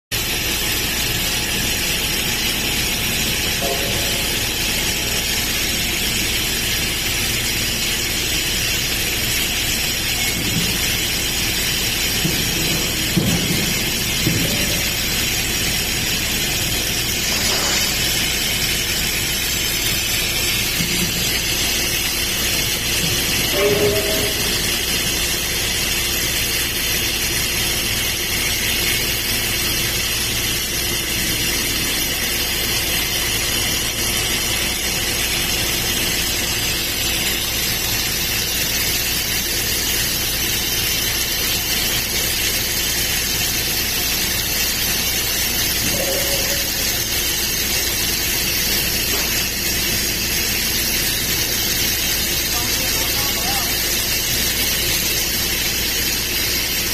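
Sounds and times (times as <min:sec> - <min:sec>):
welding machine hissing: 0:00.1 - 0:56.9.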